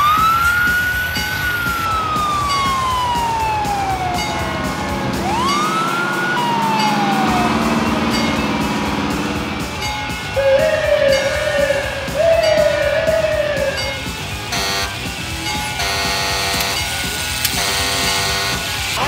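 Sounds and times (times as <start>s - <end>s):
fire engine siren wailing: 0.0s - 19.0s.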